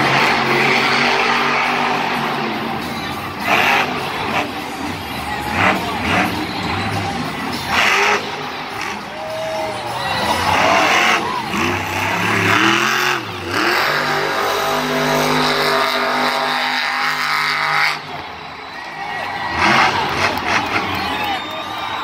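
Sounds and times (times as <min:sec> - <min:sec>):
monster truck engine revving: 0:00.0 - 0:22.0
stadium crowd: 0:00.0 - 0:22.0.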